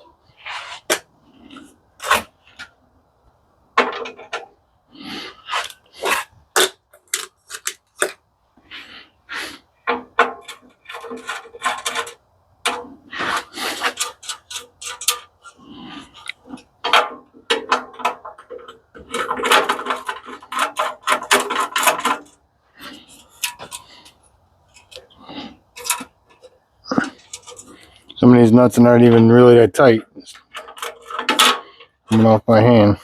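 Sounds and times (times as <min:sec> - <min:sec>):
hand tools clicking and scraping metal: 0:00.0 - 0:02.8, 0:03.8 - 0:33.0.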